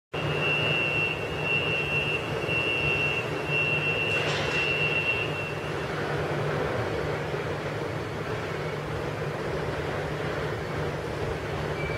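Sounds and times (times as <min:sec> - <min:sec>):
subway train rumbling: 0:00.2 - 0:11.9.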